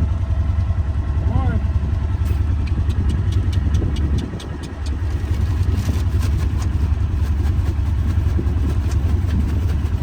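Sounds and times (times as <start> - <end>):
utility vehicle engine rumbling: 0.0 - 10.0.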